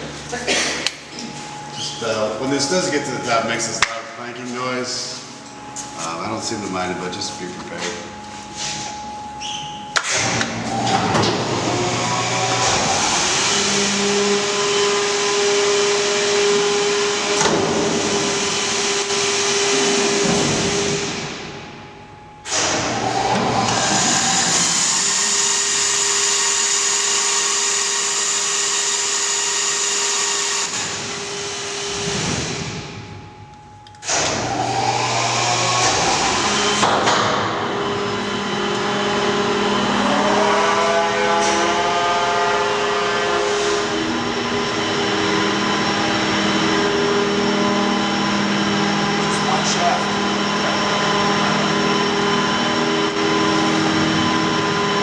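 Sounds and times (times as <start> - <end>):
machinery whirring: 0.0 - 55.0
wavering whine: 0.0 - 55.0.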